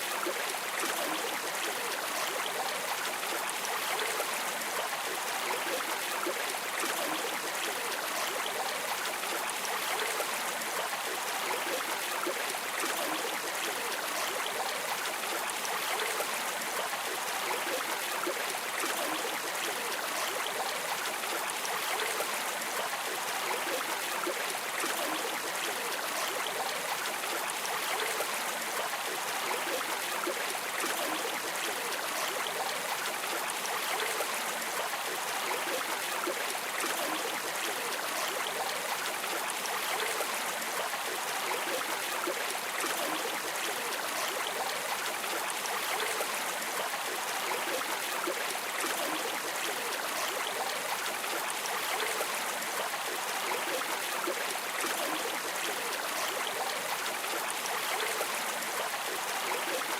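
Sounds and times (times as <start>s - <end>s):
stream rushing and babbling: 0.0s - 59.9s.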